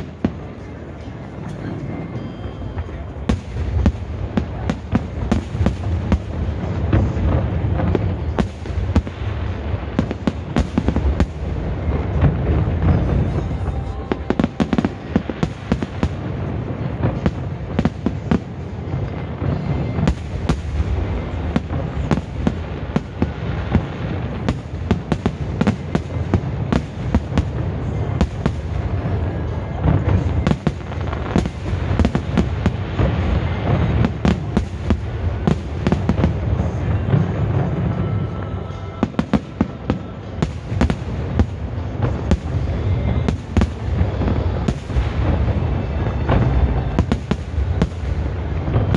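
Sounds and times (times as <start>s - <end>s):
fireworks bangs and crackles: 0.0s - 48.9s
music playing: 0.0s - 48.9s.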